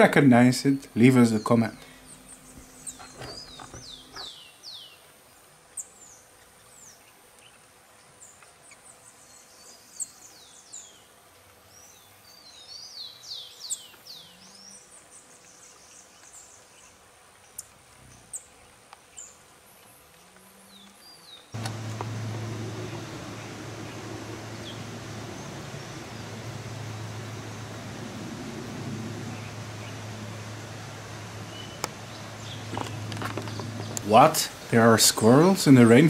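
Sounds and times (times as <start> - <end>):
faint steady high hiss: 0.0 - 36.0
songbirds chirping: 0.0 - 36.0.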